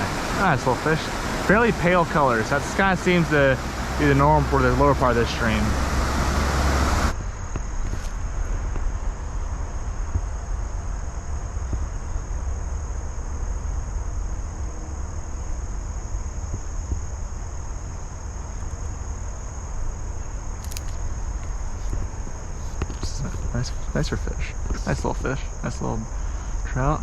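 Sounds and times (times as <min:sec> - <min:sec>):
crickets trilling: 0:00.0 - 0:27.0
low rumble: 0:00.0 - 0:27.0.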